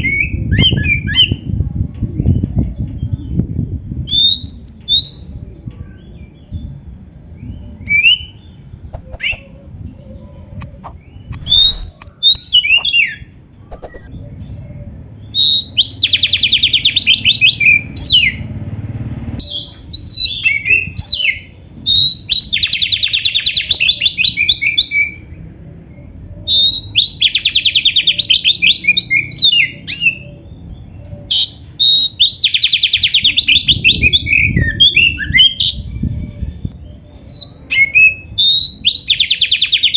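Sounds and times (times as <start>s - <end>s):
bird singing with rapid trills: 0.0s - 18.5s, 19.4s - 39.9s.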